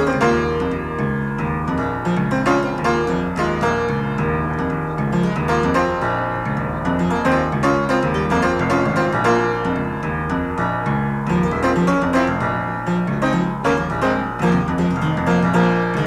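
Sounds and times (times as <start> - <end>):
piano: 0.0 - 16.0.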